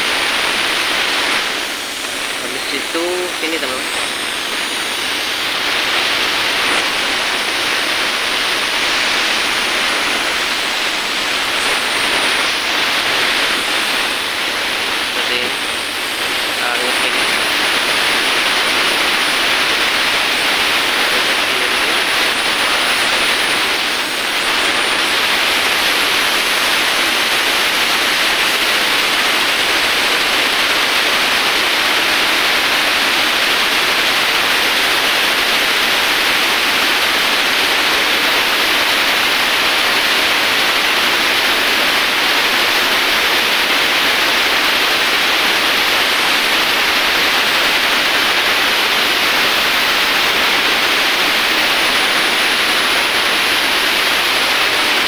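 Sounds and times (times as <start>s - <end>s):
steady loud hiss: 0.0s - 55.0s.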